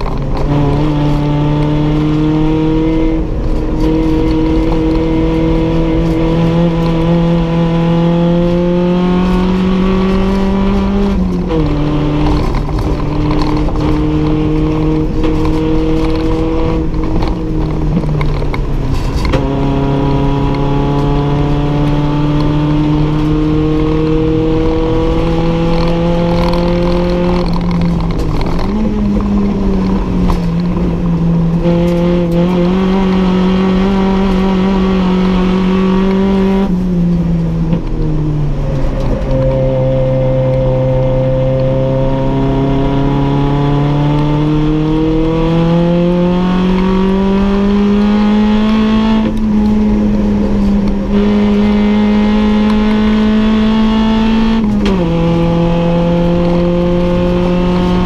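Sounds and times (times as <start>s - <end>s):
racing engine accelerating: 0.0s - 58.0s.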